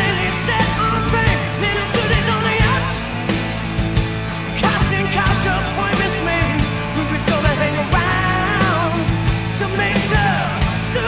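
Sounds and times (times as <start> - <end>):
person singing: 0.0 - 3.2, 4.5 - 11.0
drums: 0.0 - 11.0
guitar: 0.0 - 11.0.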